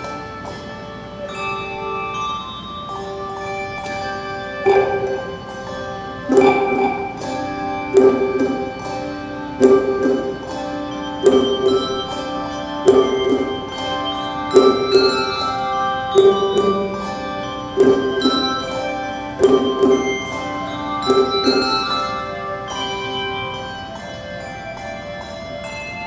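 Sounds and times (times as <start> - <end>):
handbell choir playing chords: 0.0 - 26.0.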